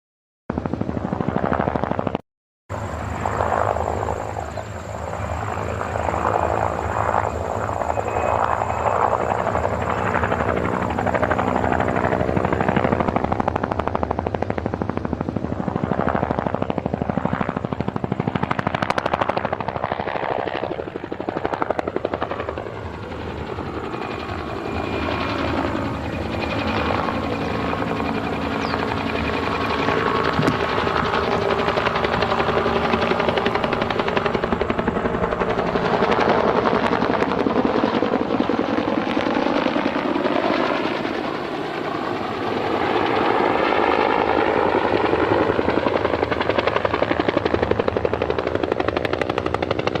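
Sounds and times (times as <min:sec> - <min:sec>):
helicopter engine drone: 0:00.5 - 0:50.0
helicopter rotor blades beating: 0:00.5 - 0:50.0.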